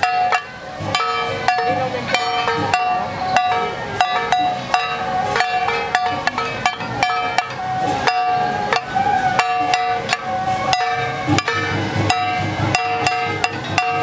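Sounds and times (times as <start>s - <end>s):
sharp percussion strikes: 0.0s - 14.0s
steady held melody: 0.0s - 14.0s.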